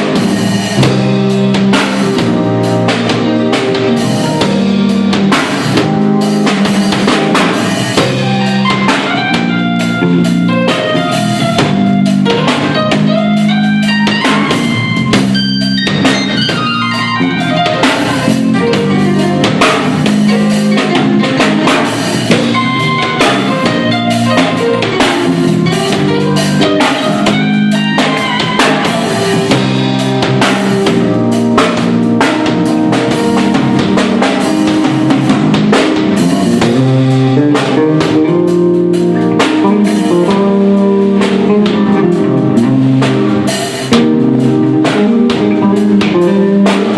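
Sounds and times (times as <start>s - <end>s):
instrumental band playing: 0.0s - 46.9s.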